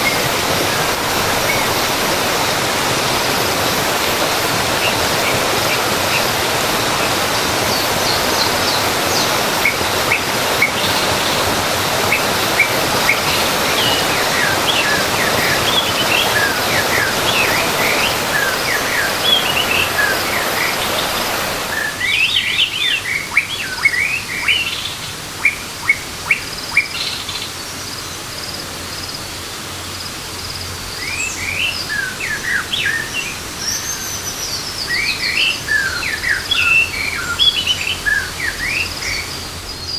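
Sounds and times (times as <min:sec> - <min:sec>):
birds chirping: 0:00.0 - 0:29.3, 0:30.4 - 0:39.9
rushing waterfall: 0:00.0 - 0:39.9.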